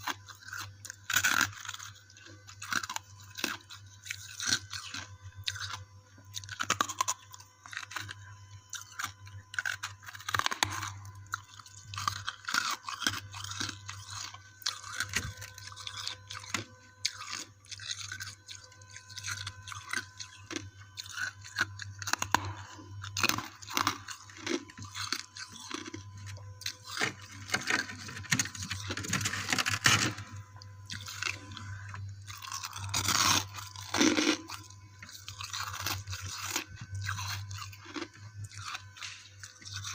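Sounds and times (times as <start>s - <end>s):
chewing ice crunching: 0.0s - 39.9s.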